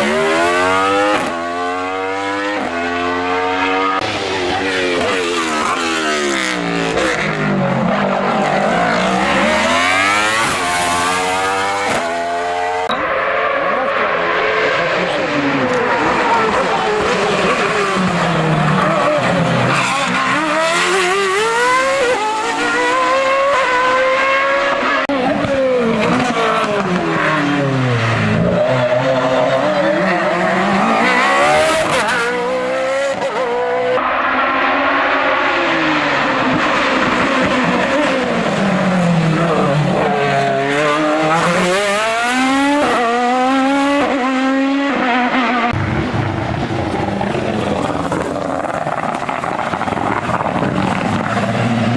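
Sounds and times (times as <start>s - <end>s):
race car engine at full throttle: 0.0s - 51.9s.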